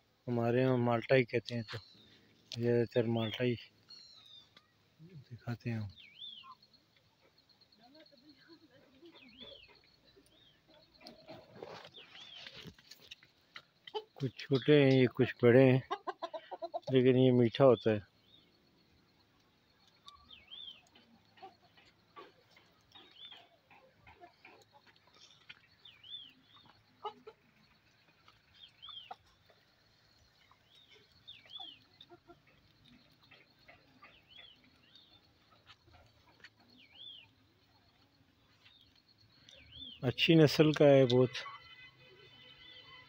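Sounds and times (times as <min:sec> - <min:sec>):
bird chirping: 0:00.3 - 0:43.0.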